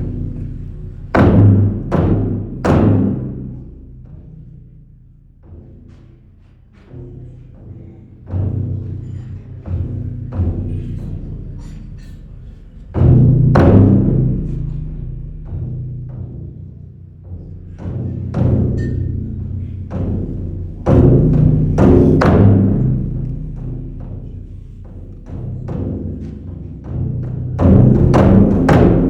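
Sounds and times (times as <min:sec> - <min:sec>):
booming drum strikes: 0:00.0 - 0:29.0.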